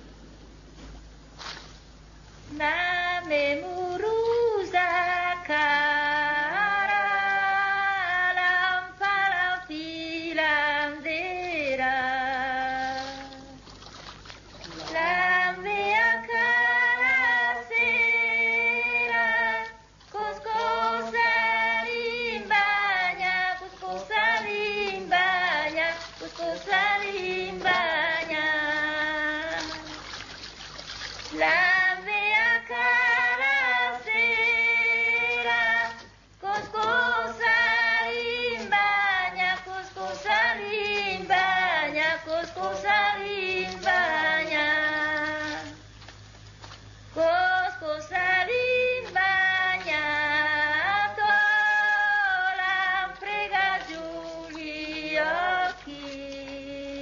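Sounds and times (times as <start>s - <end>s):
woman singing unaccompanied: 2.5s - 13.7s, 14.7s - 30.5s, 31.2s - 45.9s, 47.0s - 57.0s.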